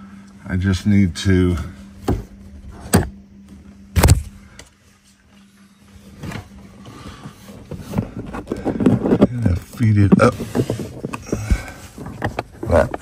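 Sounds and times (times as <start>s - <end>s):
carpet rustling: 1.5s - 13.0s.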